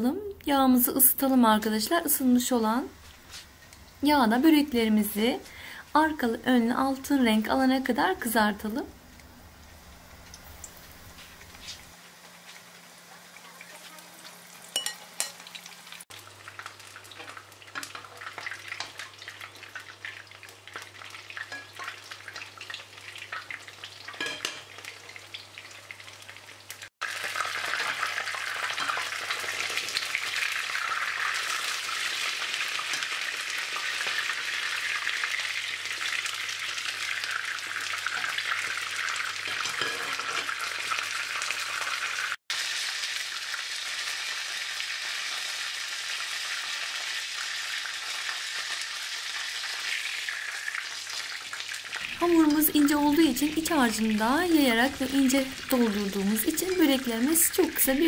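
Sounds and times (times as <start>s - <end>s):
pastries sizzling in hot oil: 0.8s - 58.0s.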